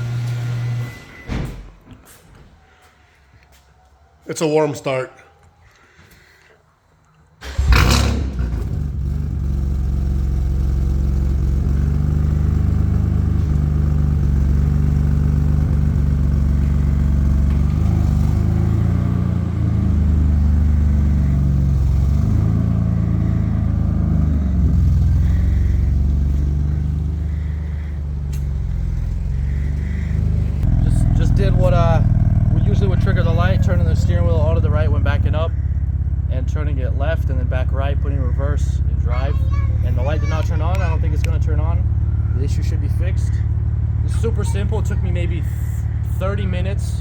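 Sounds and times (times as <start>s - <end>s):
car engine starting and idling: 0.0s - 1.9s, 7.4s - 47.0s.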